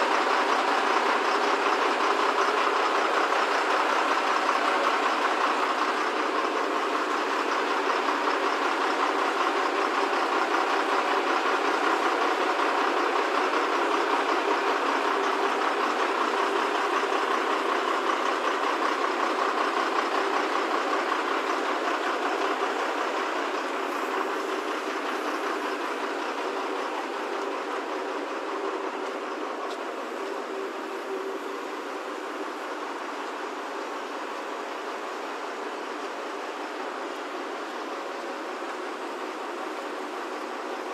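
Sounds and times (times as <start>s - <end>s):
truck engine and crane hydraulics: 0.0s - 40.9s.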